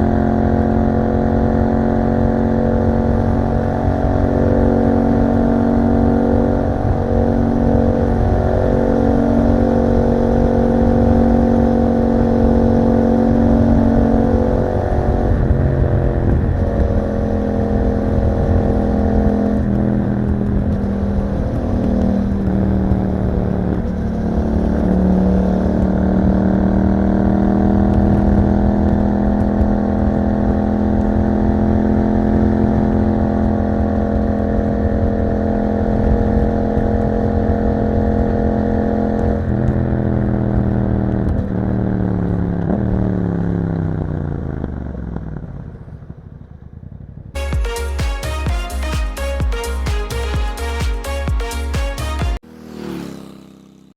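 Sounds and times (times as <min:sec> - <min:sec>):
motorcycle engine while riding: 0:00.0 - 0:47.8, 0:51.0 - 0:53.9.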